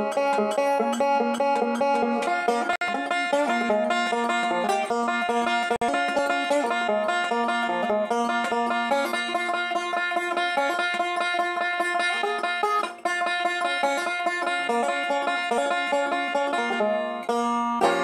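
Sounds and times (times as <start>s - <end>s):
banjo fast plucked roll: 0.0s - 18.0s.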